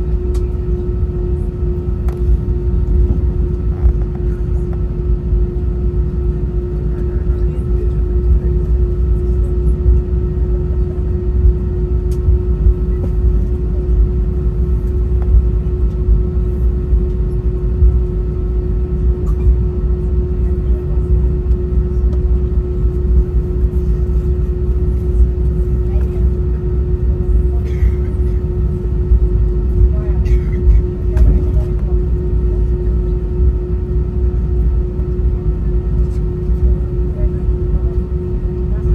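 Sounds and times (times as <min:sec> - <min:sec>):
aircraft cabin low rumble: 0:00.0 - 0:38.9
constant hum: 0:00.0 - 0:38.9.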